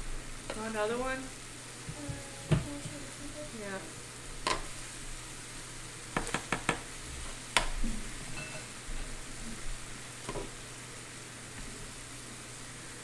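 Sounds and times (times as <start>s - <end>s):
food sizzling on a grill plate: 0.0s - 13.0s.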